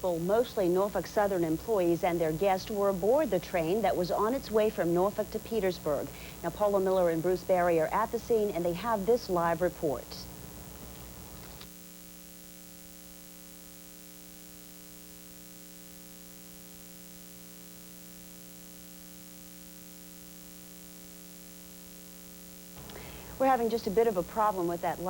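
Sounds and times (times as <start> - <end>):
electrical hum: 0.0 - 25.0
faint hiss: 0.0 - 25.0.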